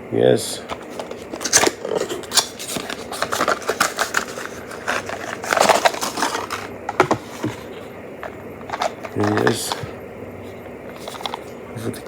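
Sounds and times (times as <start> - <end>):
plastic packaging crinkling: 0.6 - 11.6.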